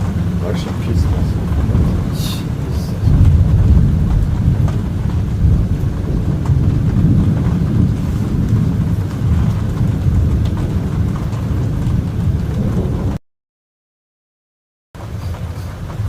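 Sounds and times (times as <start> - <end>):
rain hissing: 0.0 - 13.2, 15.0 - 16.0
thunder rumbling: 0.0 - 13.2, 15.0 - 16.0.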